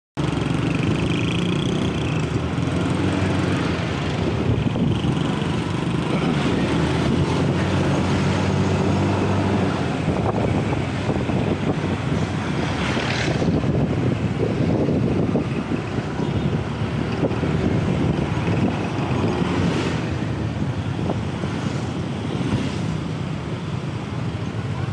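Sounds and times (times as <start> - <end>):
wind rushing over microphone: 0.4 - 24.9.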